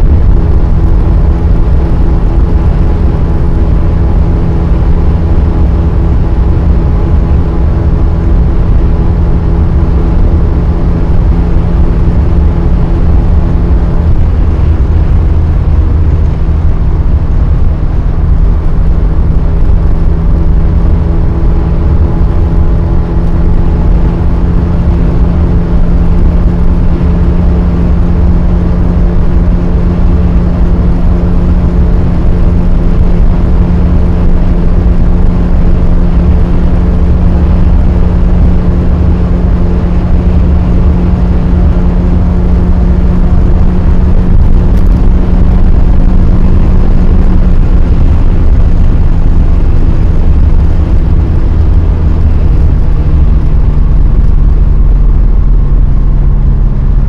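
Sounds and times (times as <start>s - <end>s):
car engine at high revs: 0.0s - 57.0s
tyre and road rumble: 0.0s - 57.0s.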